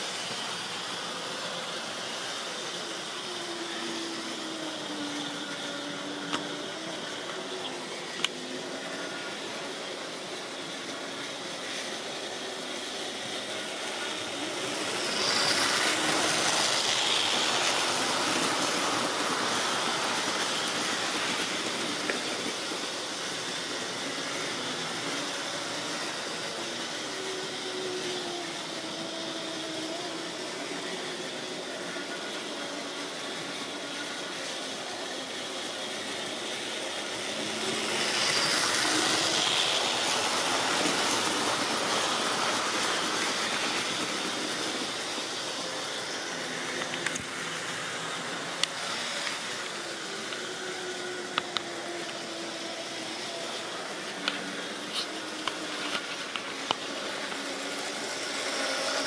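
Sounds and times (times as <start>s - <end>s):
model train motor whirring: 0.0s - 59.0s
wagons rolling on track: 0.0s - 59.0s.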